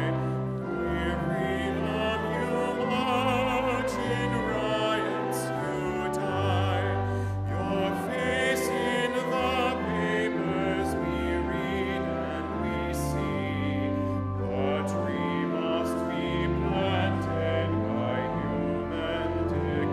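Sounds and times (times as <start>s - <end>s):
low held accompaniment notes: 0.0s - 19.9s
person singing with vibrato: 0.0s - 19.9s.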